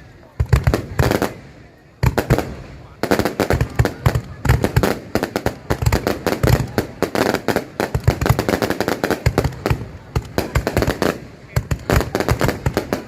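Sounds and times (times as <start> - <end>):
fireworks booming bangs: 0.0 - 13.0
fireworks cracking and popping: 0.0 - 13.0.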